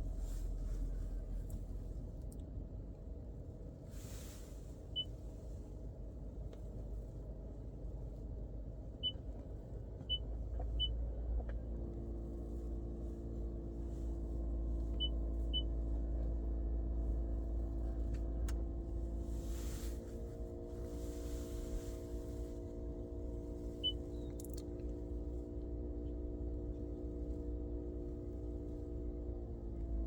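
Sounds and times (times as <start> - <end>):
low rumble: 0.0 - 9.1, 9.7 - 30.0.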